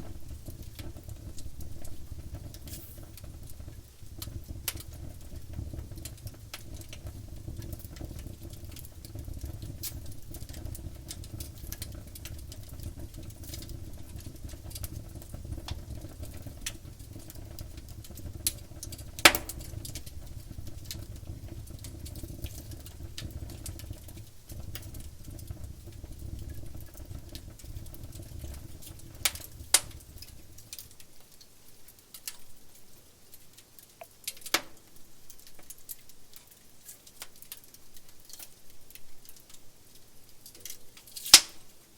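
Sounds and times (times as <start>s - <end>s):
sharp pops of fire: 0.0s - 32.6s, 33.3s - 39.6s, 40.5s - 41.8s
wood fire crackling: 0.0s - 41.9s.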